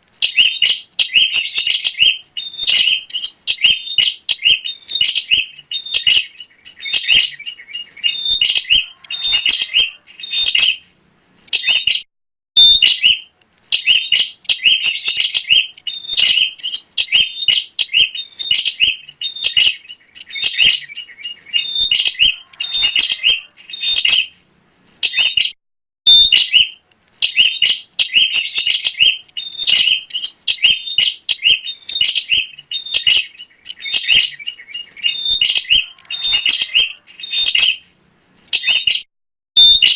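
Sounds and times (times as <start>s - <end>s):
bird chattering chirps: 0.2s - 10.8s, 11.4s - 12.0s, 12.6s - 25.5s, 26.1s - 37.8s, 38.4s - 39.0s.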